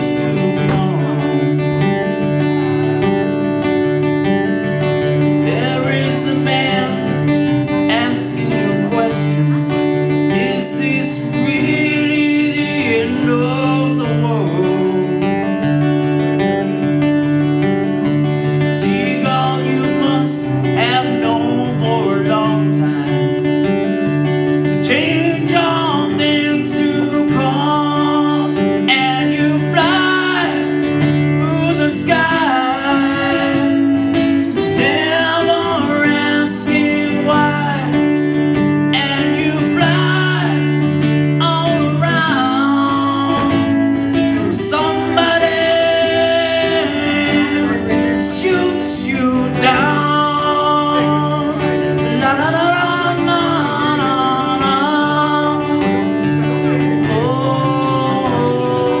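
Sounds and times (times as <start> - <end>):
man singing: 0.0 - 17.0, 18.0 - 59.0
acoustic guitar: 0.0 - 59.0.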